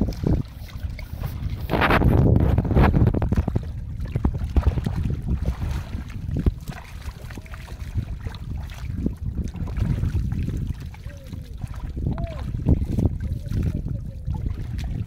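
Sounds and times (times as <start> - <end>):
river water splashing and trickling: 0.0 - 15.0
wind rumbling on microphone: 0.0 - 15.0.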